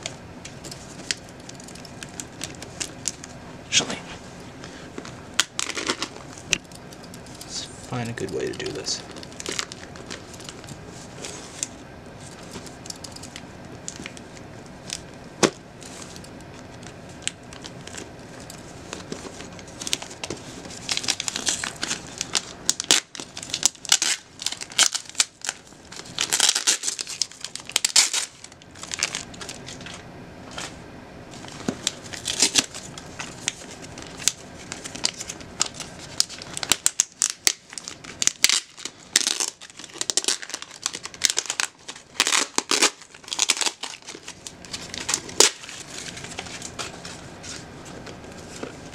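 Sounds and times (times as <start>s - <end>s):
paper wrapping crinkling and tearing: 5.0s - 6.6s, 7.3s - 15.1s, 15.8s - 48.9s.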